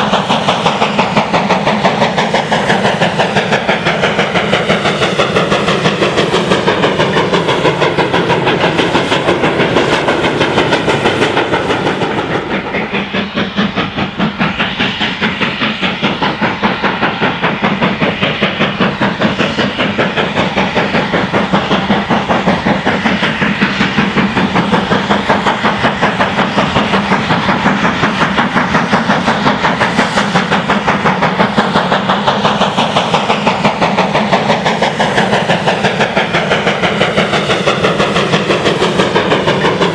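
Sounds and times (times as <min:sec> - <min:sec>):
steam locomotive exhaust beat: 0:00.0 - 0:39.9
train clattering over rails: 0:00.0 - 0:39.9.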